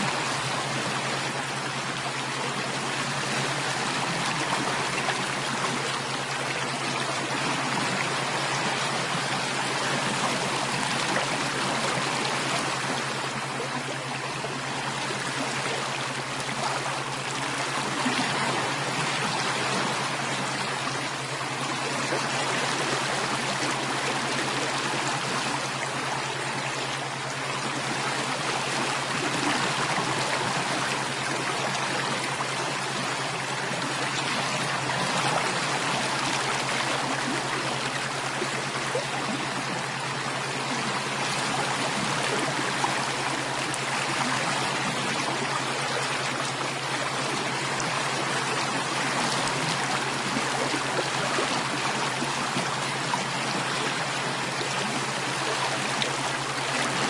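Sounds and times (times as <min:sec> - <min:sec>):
stream water rushing and trickling: 0:00.0 - 0:57.0.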